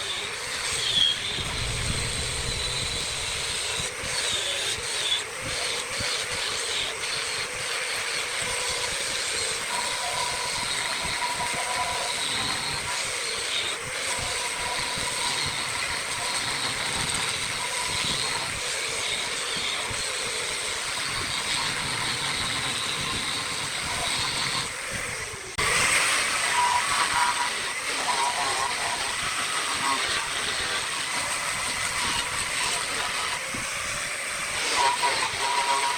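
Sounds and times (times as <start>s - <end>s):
wood lathe cutting wood: 0.0s - 35.9s.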